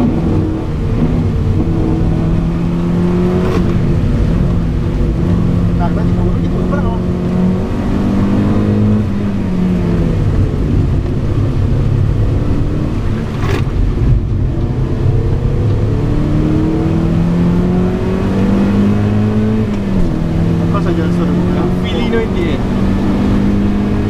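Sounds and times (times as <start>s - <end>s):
car engine revving in cabin: 0.0s - 24.0s.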